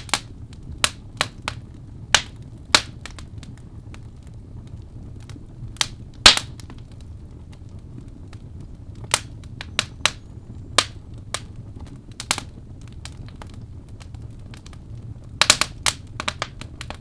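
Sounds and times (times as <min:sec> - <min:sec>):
fire low rumble: 0:00.0 - 0:17.0
wood fire crackling: 0:00.0 - 0:17.0.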